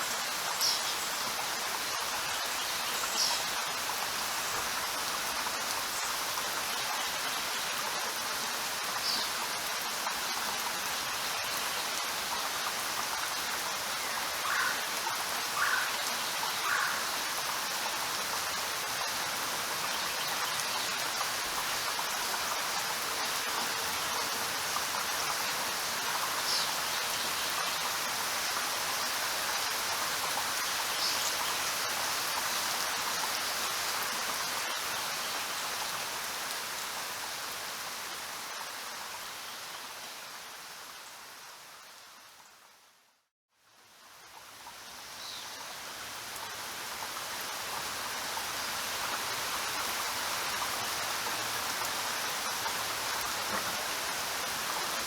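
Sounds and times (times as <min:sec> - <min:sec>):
sharp raindrops: 0:00.0 - 0:41.0, 0:43.9 - 0:55.0
steady rain falling: 0:00.0 - 0:55.0.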